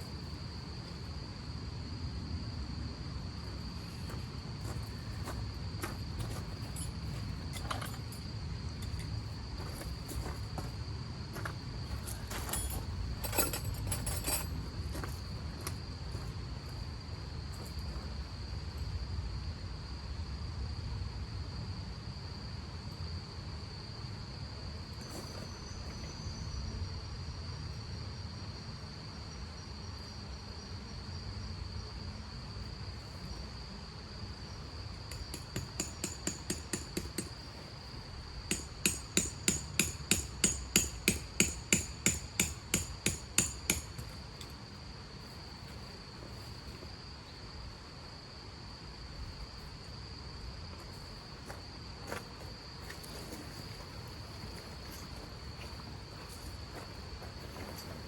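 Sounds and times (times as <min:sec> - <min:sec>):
cricket trilling: 0:00.0 - 0:58.0.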